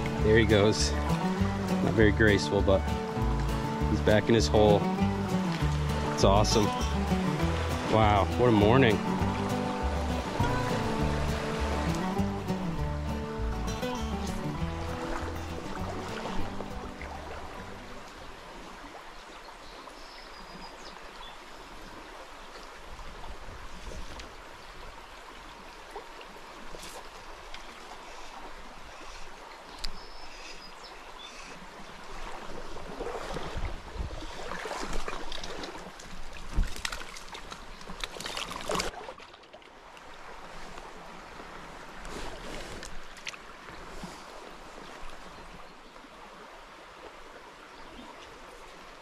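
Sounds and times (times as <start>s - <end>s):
creek water running: 0.0s - 49.0s.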